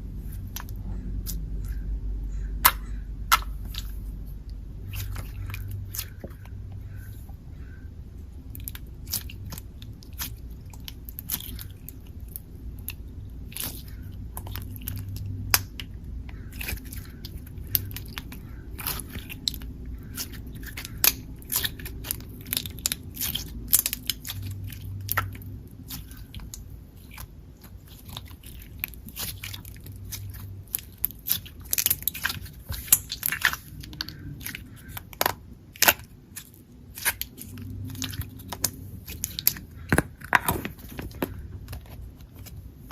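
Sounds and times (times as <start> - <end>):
hands squishing slime: 0.0 - 42.9.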